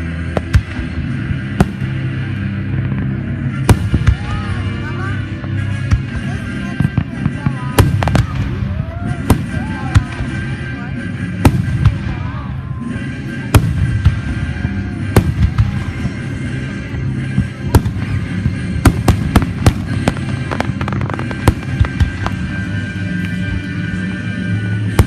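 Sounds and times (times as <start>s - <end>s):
steady low rumble: 0.0s - 25.0s
fireworks bangs: 0.3s - 4.7s, 5.7s - 10.6s, 11.2s - 12.5s, 13.4s - 23.4s.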